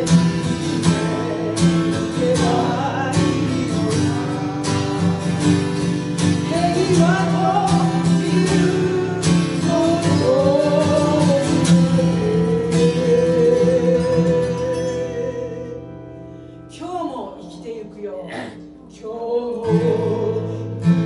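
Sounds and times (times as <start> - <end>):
person singing: 0.0 - 16.0, 16.7 - 21.0
acoustic guitar chords: 0.0 - 21.0.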